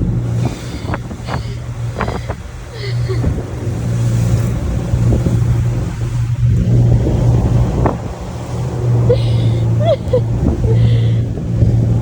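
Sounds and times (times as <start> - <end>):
motorboat engine droning: 0.0 - 12.0
rushing wind: 0.0 - 12.0
water splashing: 0.0 - 12.0.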